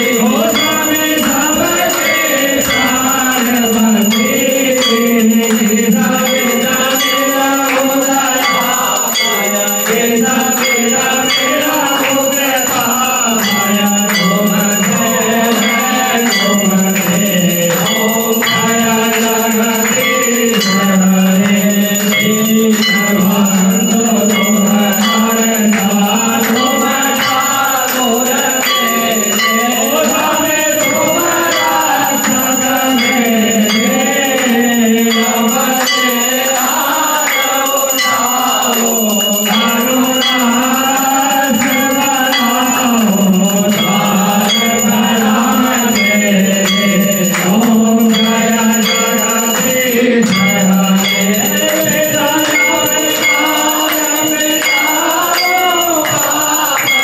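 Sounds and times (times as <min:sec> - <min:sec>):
bells ringing: 0:00.0 - 0:57.0
rhythmic percussion: 0:00.0 - 0:57.0
voices singing together: 0:00.0 - 0:57.0.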